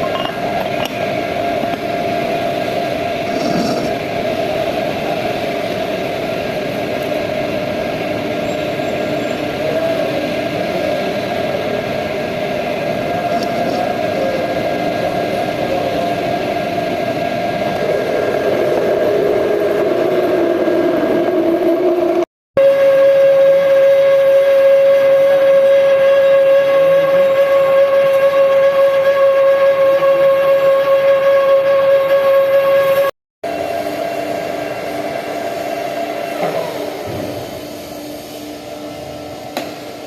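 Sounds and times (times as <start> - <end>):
metal lathe humming and whining: 0.0 - 40.0.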